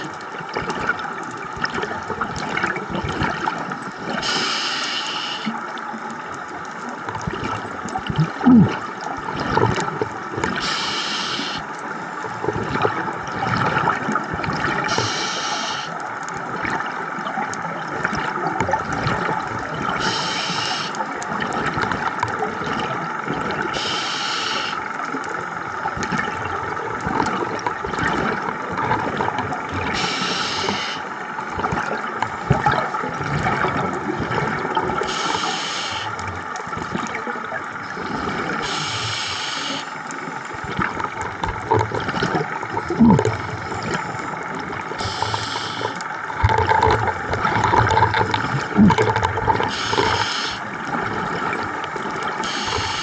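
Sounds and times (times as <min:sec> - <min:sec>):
exhaled bubbles underwater: 0:00.0 - 0:53.0
steady watery hiss: 0:02.4 - 0:53.0.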